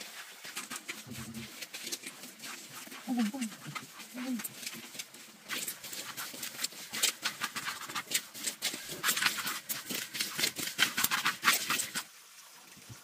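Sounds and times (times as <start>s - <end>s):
grain scraping in a steel wok: 0.0s - 12.1s.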